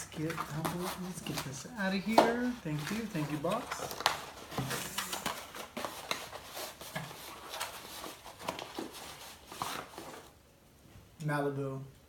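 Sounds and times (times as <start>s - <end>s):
cardboard packaging rustling: 0.0s - 10.4s.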